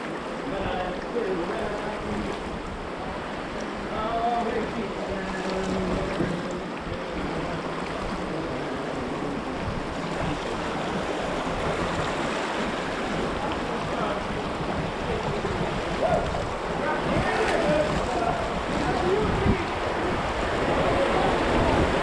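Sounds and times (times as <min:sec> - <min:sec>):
paddle strokes in water: 0:00.0 - 0:22.0
whitewater rushing: 0:00.0 - 0:22.0
wind buffeting microphone: 0:00.0 - 0:22.0.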